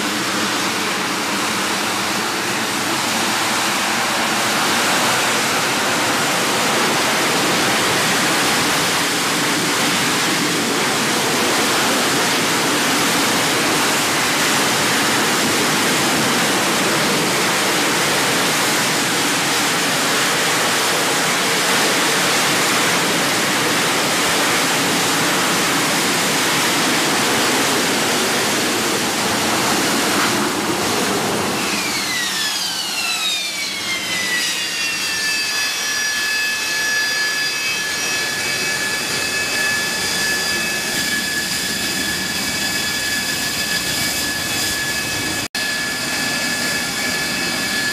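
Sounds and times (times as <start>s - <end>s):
high turbine whine: 0.0s - 47.9s
jet engine roar: 0.0s - 47.9s.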